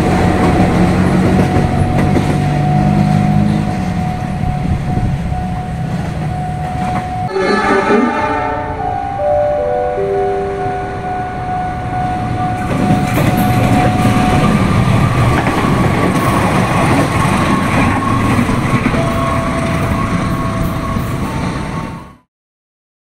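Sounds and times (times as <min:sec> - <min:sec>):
diesel locomotive passing: 0:00.0 - 0:22.3.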